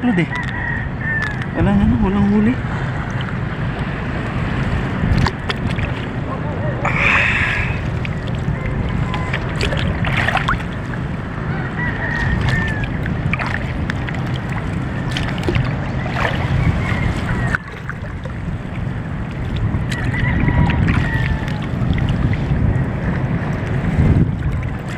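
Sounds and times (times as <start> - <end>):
wind buffeting microphone: 0.0 - 24.9
water sloshing and splashing: 2.6 - 24.9.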